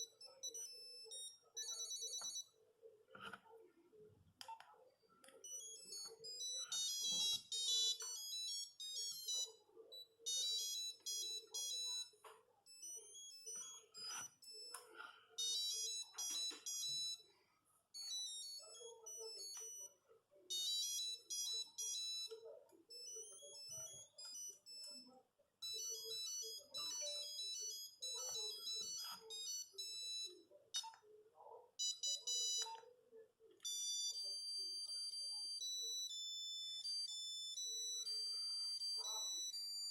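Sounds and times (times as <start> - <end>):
mobile phone ringtone melody: 0.0 - 2.6, 5.3 - 17.4, 18.0 - 31.0, 31.8 - 33.0, 33.6 - 39.9.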